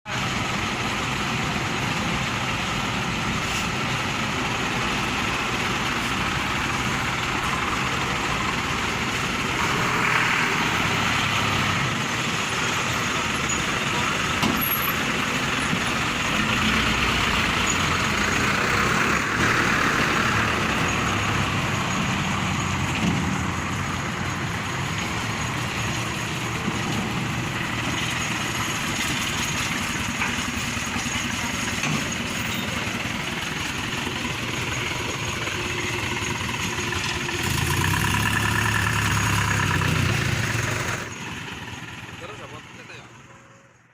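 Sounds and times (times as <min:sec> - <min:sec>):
truck diesel engines running: 0:00.0 - 0:43.9.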